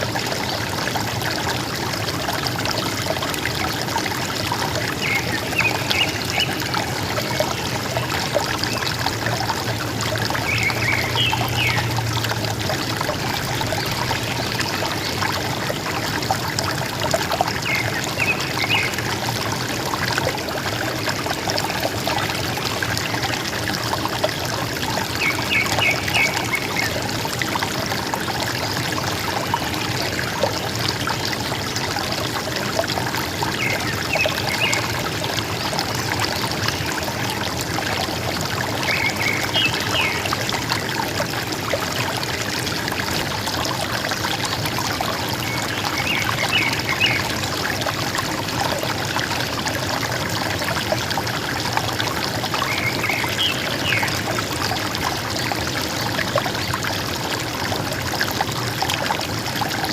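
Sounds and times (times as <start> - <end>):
river water gurgling: 0.0 - 59.9.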